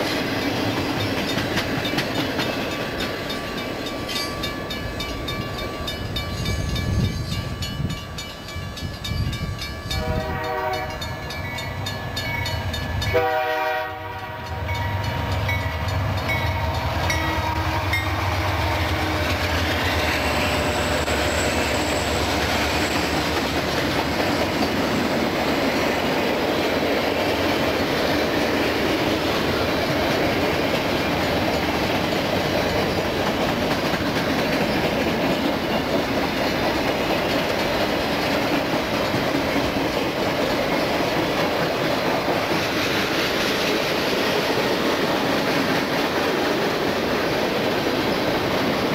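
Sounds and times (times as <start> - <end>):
freight train wheels clattering: 0.0 - 48.9.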